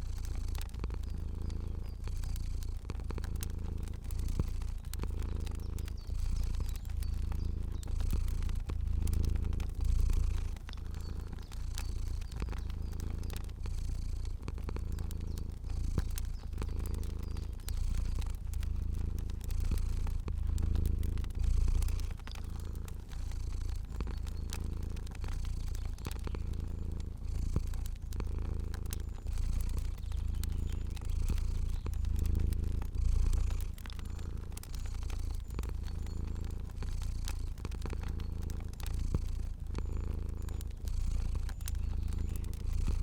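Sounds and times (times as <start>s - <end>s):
cat purring: 0.0s - 43.0s
fire crackling: 0.0s - 43.0s.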